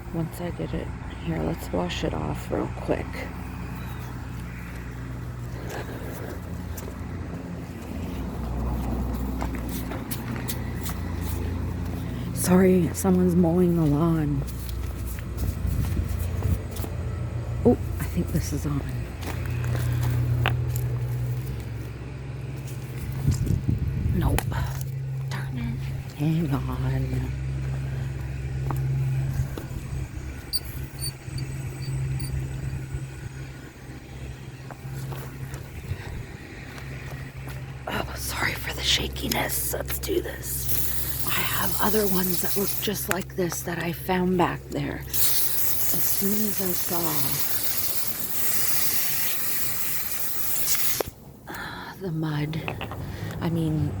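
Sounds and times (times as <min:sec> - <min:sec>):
lawn mower engine running: 0:02.0 - 0:37.8, 0:40.6 - 0:51.2.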